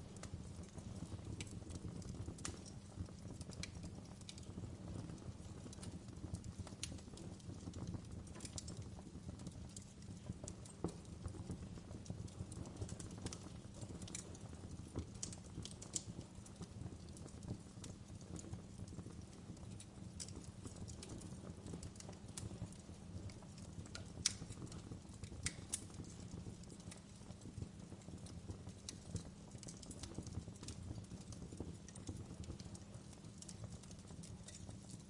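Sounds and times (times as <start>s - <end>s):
low rumble of fire: 0.0s - 35.0s
wood fire popping and crackling: 0.0s - 35.0s.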